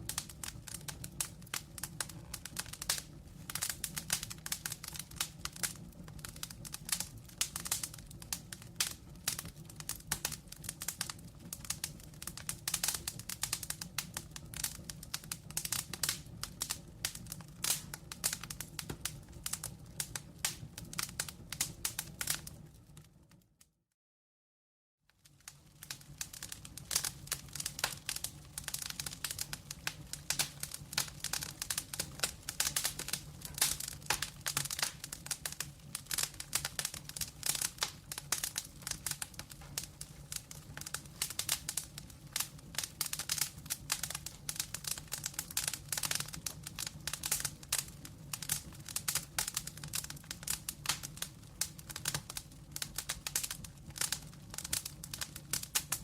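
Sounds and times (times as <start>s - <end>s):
wood fire crackling and popping: 0.0s - 23.6s, 25.2s - 56.0s.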